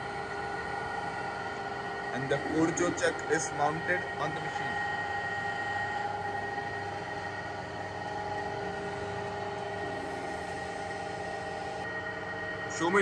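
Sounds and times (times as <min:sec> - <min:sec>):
lathe humming with high whine: 0:00.0 - 0:13.0.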